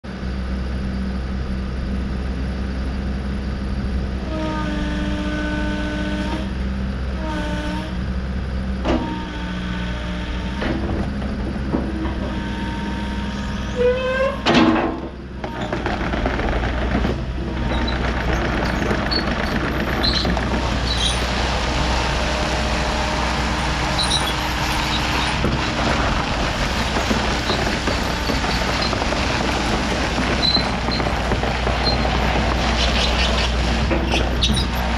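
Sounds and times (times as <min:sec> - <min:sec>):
diesel engine running: 0:00.0 - 0:34.9
hydraulic whine: 0:00.1 - 0:34.9.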